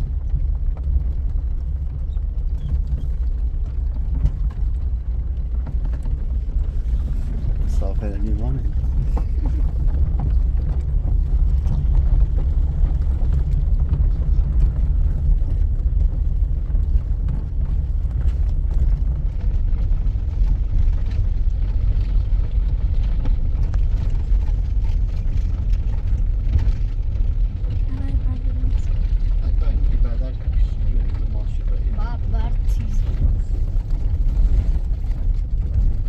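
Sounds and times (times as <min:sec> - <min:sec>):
vehicle engine and road rumble: 0:00.0 - 0:36.0.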